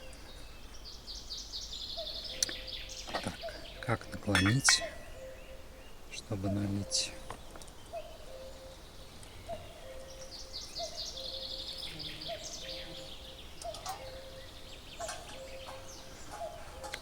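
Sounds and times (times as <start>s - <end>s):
songbird trilling: 0.0s - 17.0s
bird low call: 1.4s - 17.0s.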